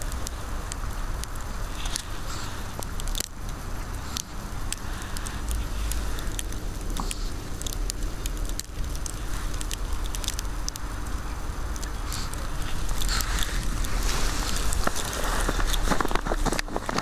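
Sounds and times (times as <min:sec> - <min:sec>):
steady low rumble: 0:00.0 - 0:17.0
wet snow crunching: 0:00.0 - 0:17.0.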